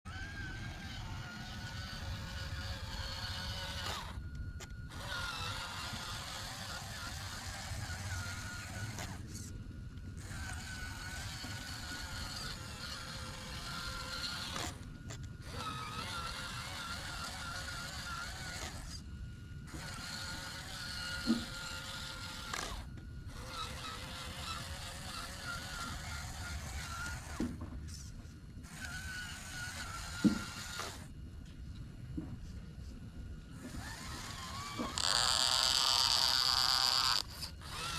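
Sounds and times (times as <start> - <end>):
high wavering whine: 0.1 - 37.9.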